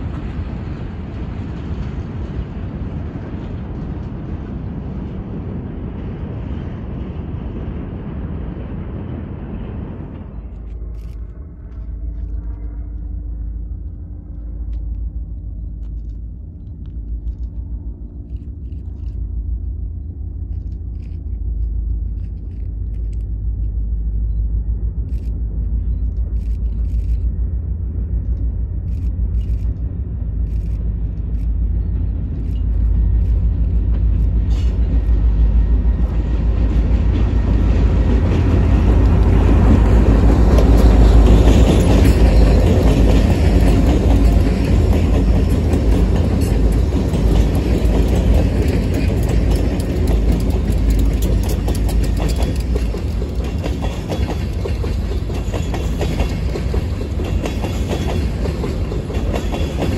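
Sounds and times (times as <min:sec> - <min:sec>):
diesel locomotive engines rumbling: 0:00.0 - 0:59.9.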